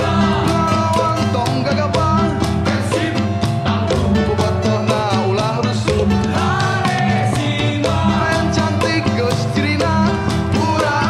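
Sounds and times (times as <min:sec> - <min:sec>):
guitar: 0:00.0 - 0:11.0
live rock band music: 0:00.0 - 0:11.0.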